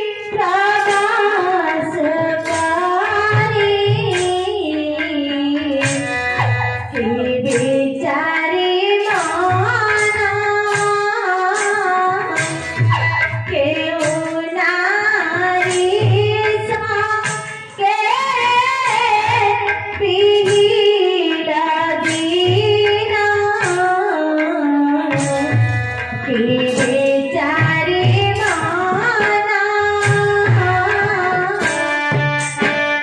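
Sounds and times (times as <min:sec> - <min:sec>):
hand drum beats: 0:00.0 - 0:33.0
instrumental accompaniment: 0:00.0 - 0:33.0.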